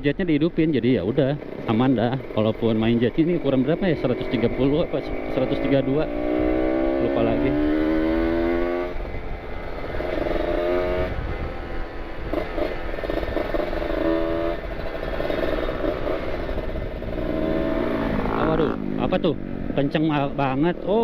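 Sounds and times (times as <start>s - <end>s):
motorcycle engine revving: 0.8s - 21.0s.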